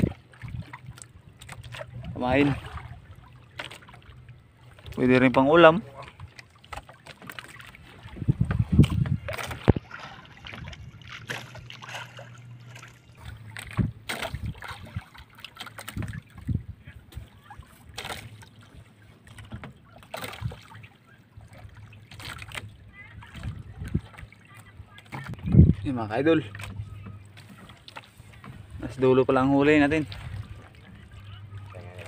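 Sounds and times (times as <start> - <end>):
water dripping and splashing: 0.0 - 32.0.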